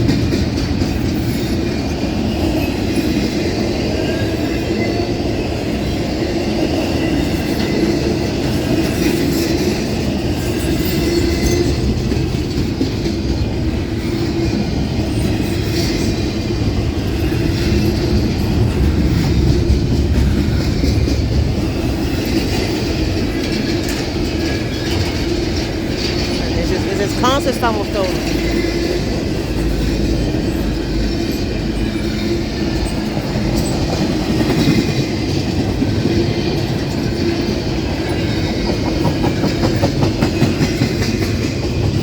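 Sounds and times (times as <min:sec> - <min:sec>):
freight train rolling past: 0:00.0 - 0:42.0.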